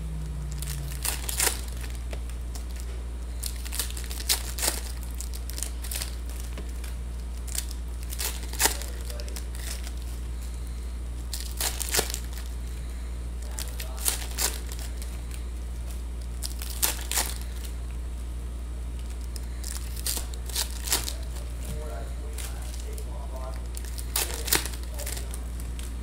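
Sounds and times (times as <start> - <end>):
steady low hum: 0.0 - 26.0
foil packs tearing and crinkling: 0.5 - 12.8, 13.4 - 17.8, 18.9 - 26.0.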